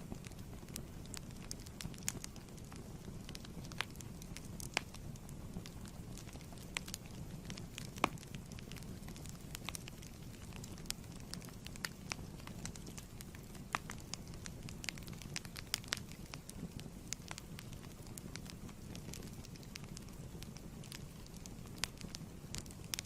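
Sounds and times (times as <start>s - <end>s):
fire crackling and popping: 0.0s - 23.0s
fire rumbling in fireplace: 0.0s - 23.0s.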